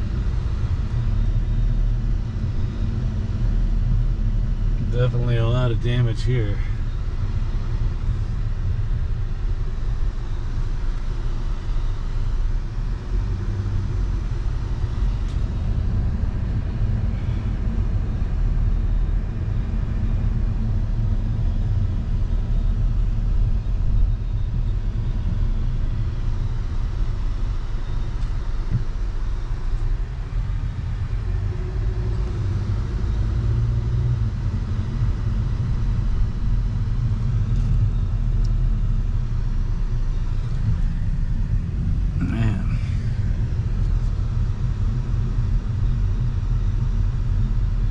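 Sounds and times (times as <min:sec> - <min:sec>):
car driving road noise: 0:00.0 - 0:47.9.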